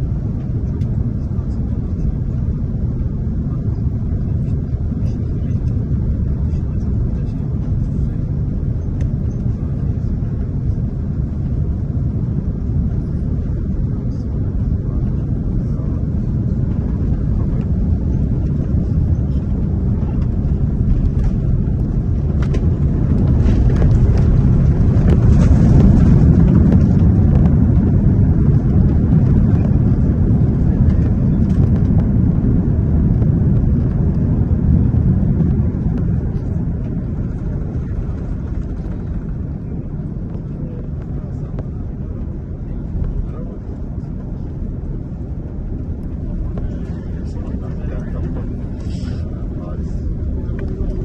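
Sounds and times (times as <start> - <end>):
jet engine cabin rumble: 0.0 - 51.0.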